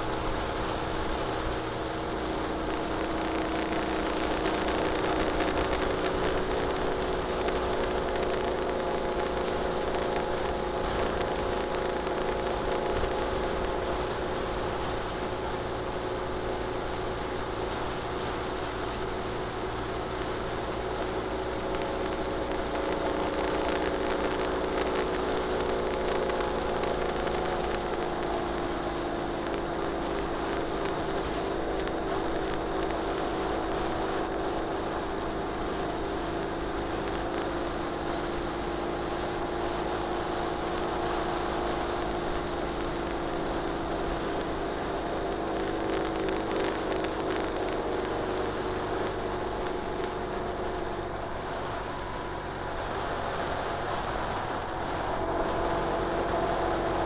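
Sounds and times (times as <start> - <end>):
motorcycle engine cruising: 0.0 - 57.0
wind and road noise hiss: 0.0 - 57.0.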